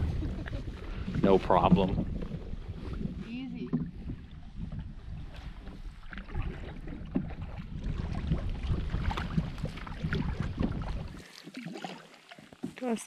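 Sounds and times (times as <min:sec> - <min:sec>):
wind rumbling on microphone: 0:00.0 - 0:11.2
paddle strokes in water: 0:00.0 - 0:13.0.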